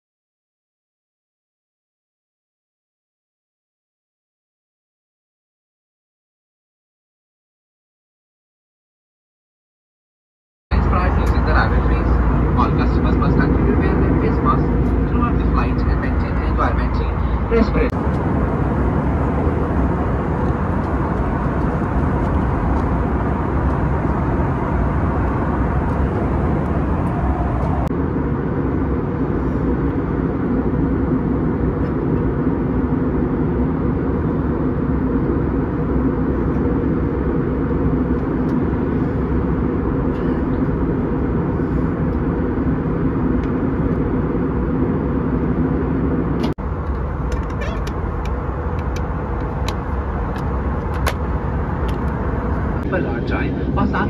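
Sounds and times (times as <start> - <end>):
air rushing over fuselage: 10.7 - 54.0
jet engine drone: 10.7 - 54.0
low steady hum: 10.7 - 54.0.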